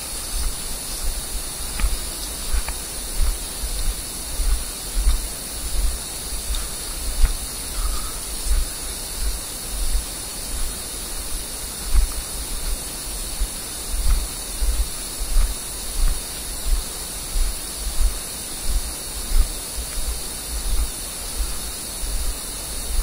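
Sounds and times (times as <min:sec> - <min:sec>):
footsteps through undergrowth: 0:00.0 - 0:22.4
steady hiss: 0:00.0 - 0:23.0.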